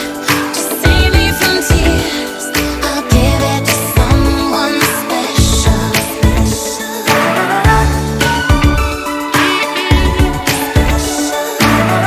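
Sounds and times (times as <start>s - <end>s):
pop music with strong bass: 0.0s - 12.0s.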